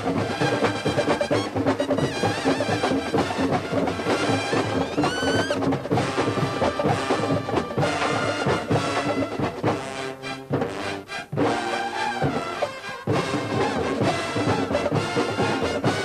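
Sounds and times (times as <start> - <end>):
brass playing: 0.0 - 16.0
drum line playing: 0.0 - 16.0
high bugle line: 0.0 - 16.0.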